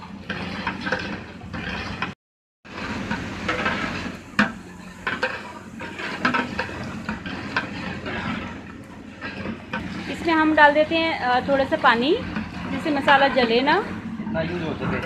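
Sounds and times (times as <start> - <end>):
ladle scraping and knocking pot: 0.0 - 15.0
gravy sizzling in a pot: 2.7 - 14.8.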